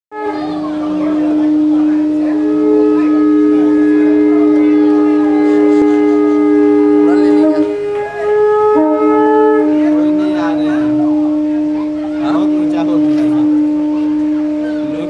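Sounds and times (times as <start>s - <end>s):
conch shells blown: 0.1s - 15.0s.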